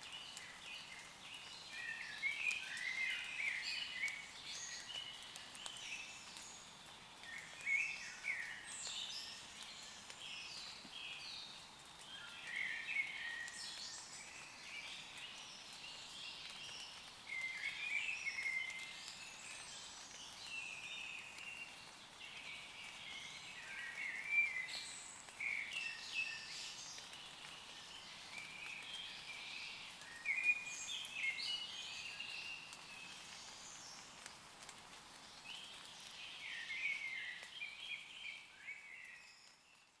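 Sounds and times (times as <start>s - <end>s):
light rain on leaves: 0.0s - 40.0s.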